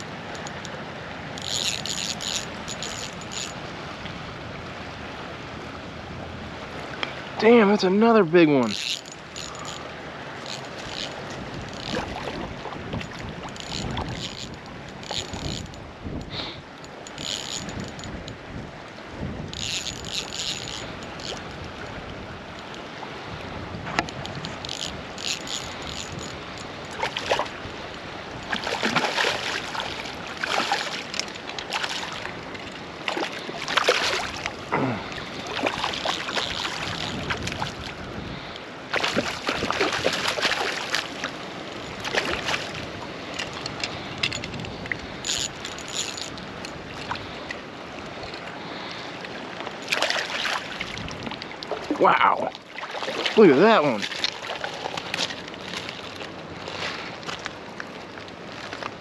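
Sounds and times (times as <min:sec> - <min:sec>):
river water running: 0:00.0 - 0:59.0
water splashing and sloshing: 0:00.0 - 0:59.0.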